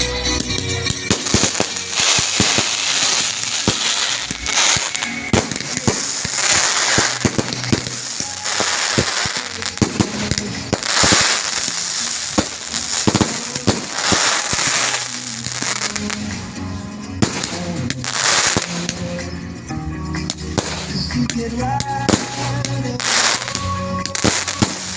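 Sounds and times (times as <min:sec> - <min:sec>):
fireworks crackling bursts: 0:00.0 - 0:24.9
music playing: 0:00.0 - 0:24.9
fireworks bangs: 0:00.2 - 0:19.3, 0:20.3 - 0:24.9.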